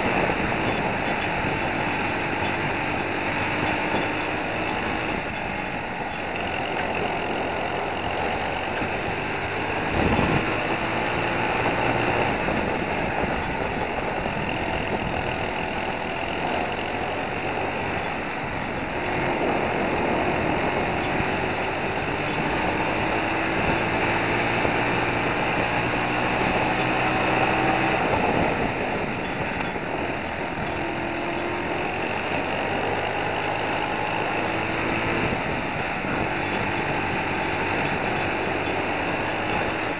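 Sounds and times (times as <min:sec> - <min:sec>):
kart engine revving: 0:00.0 - 0:39.9
wind noise on microphone: 0:00.0 - 0:39.9.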